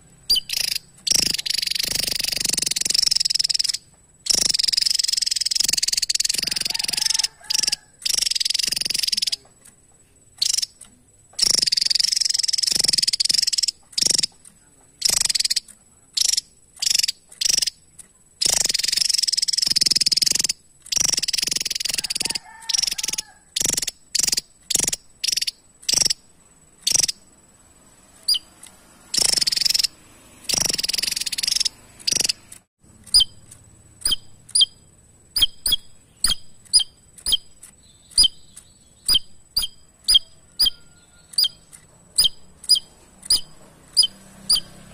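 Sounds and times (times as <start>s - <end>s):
bird buzzy chattering song: 0.0s - 27.5s, 28.1s - 44.9s.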